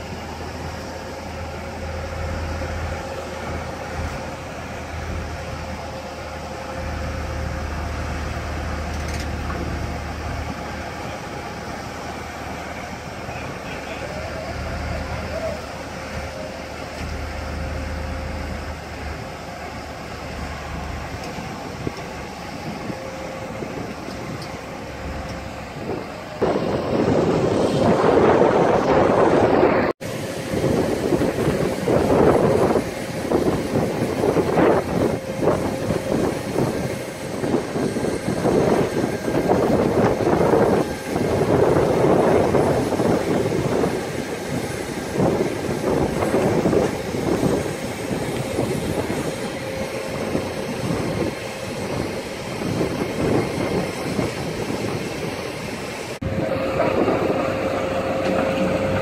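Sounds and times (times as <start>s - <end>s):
diesel engine humming: 0.0s - 59.0s
wind and surf rushing: 0.0s - 59.0s.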